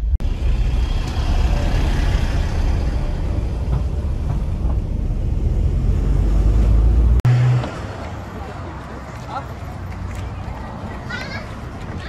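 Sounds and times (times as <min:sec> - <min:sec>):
road vehicles rumbling: 0:00.0 - 0:12.0.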